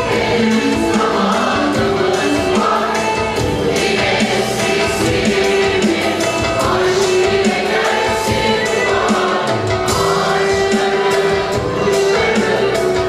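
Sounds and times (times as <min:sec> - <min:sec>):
instrumental accompaniment: 0:00.0 - 0:13.0
mixed choir singing: 0:00.0 - 0:13.0.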